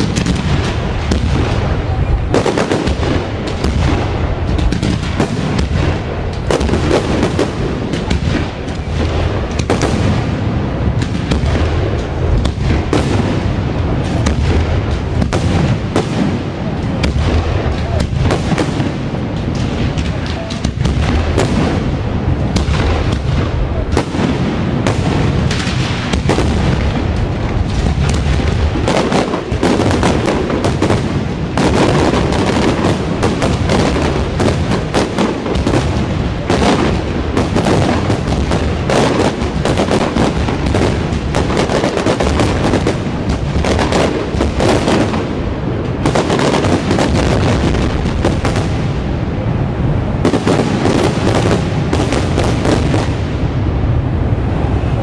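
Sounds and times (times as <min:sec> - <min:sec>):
fireworks booms and cracks: 0:00.0 - 0:55.0.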